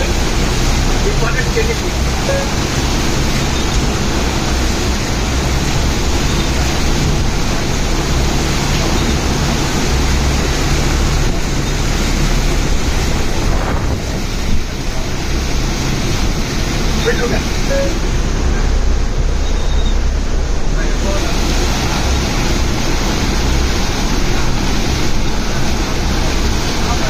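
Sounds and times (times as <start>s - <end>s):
wind buffeting microphone: 0.0s - 27.0s
wind rushing: 2.0s - 26.8s.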